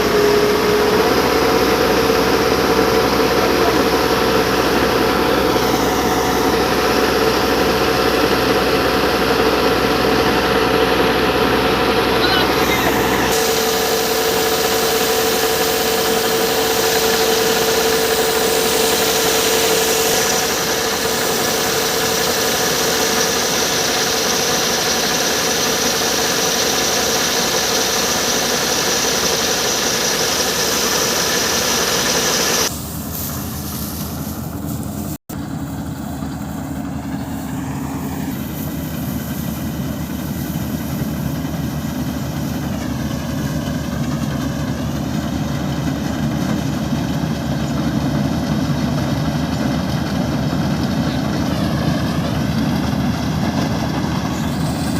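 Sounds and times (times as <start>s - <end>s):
high-pitched whine: 0.0s - 48.4s
tractor diesel engine running: 0.0s - 54.9s.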